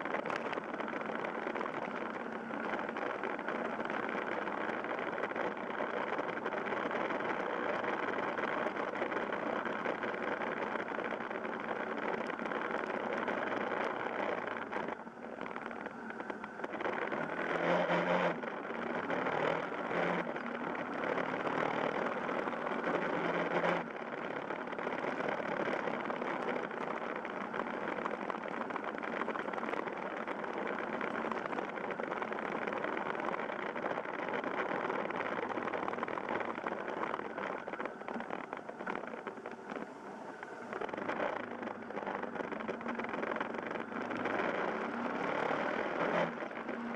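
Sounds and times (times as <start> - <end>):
motorcycle engine running: 0.0 - 46.9
wind noise on microphone: 0.0 - 46.9.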